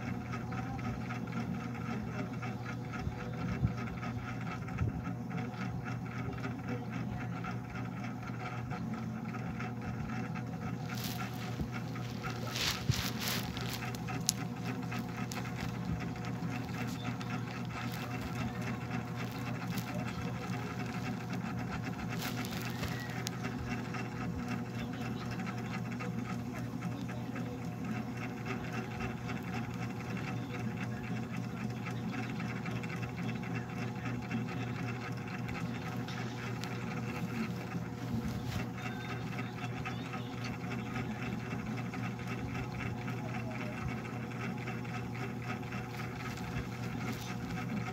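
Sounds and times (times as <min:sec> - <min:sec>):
small motor humming and rattling: 0:00.0 - 0:47.9.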